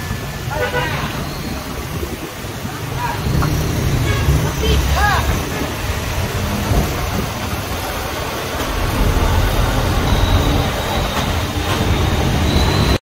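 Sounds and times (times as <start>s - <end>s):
heavy vehicle traffic rumble: 0.0s - 13.0s.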